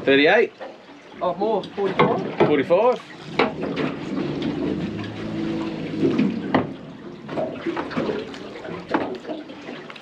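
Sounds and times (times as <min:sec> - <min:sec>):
water running and splashing: 0:00.0 - 0:10.0.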